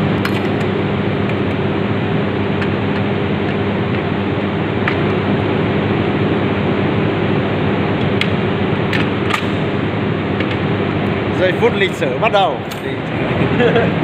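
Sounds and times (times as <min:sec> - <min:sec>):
machine humming and hissing: 0:00.0 - 0:14.0.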